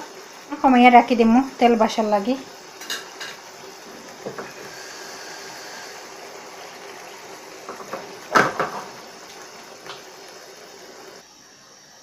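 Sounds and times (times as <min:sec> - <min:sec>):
sauce simmering and sizzling in a pan: 0:00.0 - 0:11.9.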